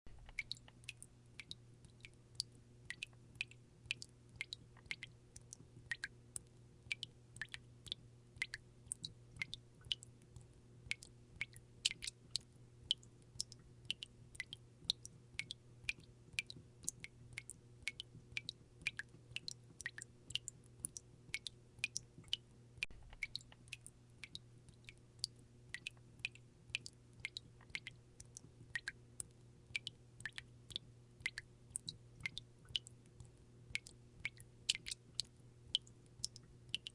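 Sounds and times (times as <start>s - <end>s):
faint steady hum: 0.1s - 36.9s
faucet dripping: 0.2s - 36.9s.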